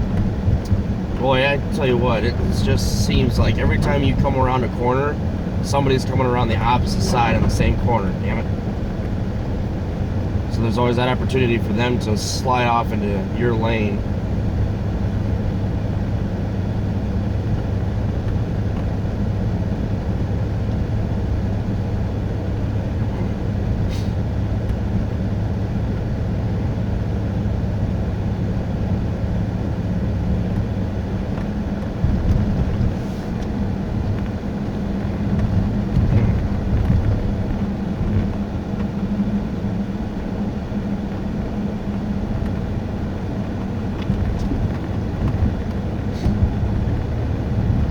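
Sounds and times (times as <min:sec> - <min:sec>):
engine hum inside car: 0:00.0 - 0:47.9
tyre and road noise: 0:00.0 - 0:47.9.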